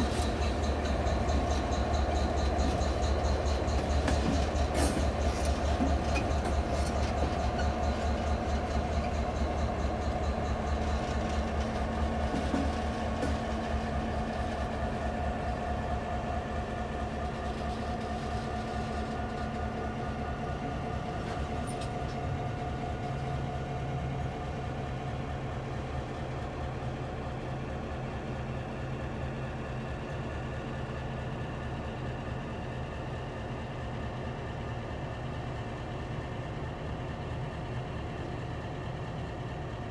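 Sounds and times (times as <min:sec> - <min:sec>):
diesel locomotive engine humming: 0:00.0 - 0:39.9.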